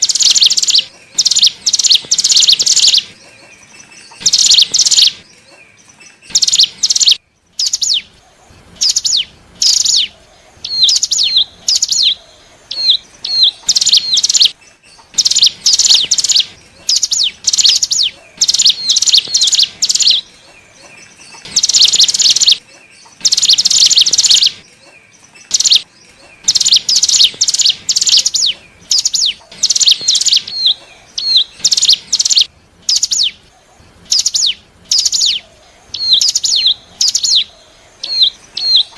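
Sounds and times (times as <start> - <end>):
bird high rapid chirping: 0.0 - 38.9.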